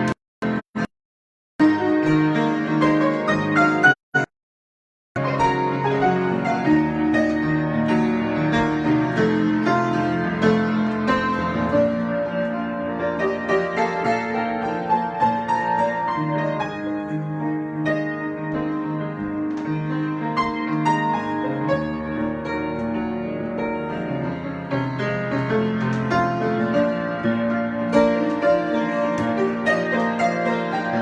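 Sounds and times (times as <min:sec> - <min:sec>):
piano improvisation: 0:01.6 - 0:04.3, 0:05.2 - 0:31.0.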